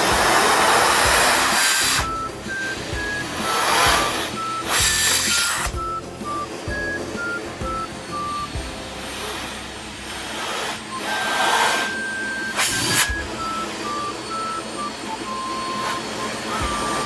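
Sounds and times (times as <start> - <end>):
beeping background music: 0.0 - 17.0
vacuum cleaner running: 0.0 - 17.0.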